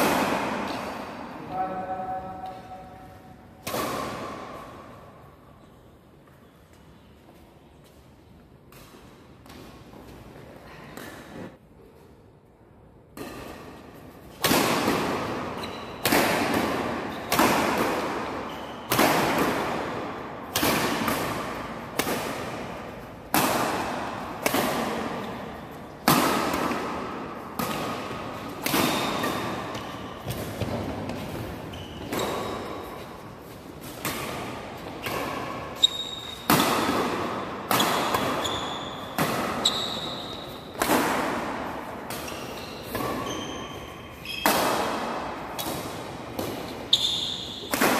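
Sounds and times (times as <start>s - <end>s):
badminton racket hitting shuttlecock: 0.0s - 4.6s, 13.1s - 47.9s.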